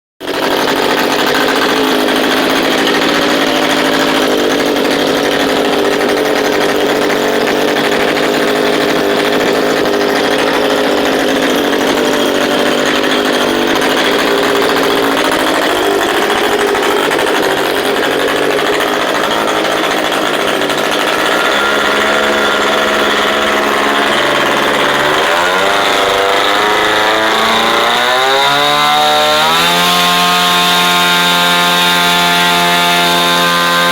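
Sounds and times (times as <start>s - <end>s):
model aircraft engine revving: 0.2s - 33.9s.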